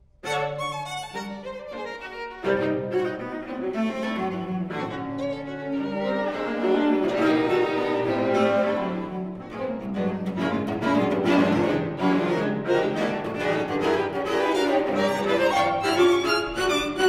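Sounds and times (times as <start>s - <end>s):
string quartet playing bowed chords: 0.2s - 17.0s.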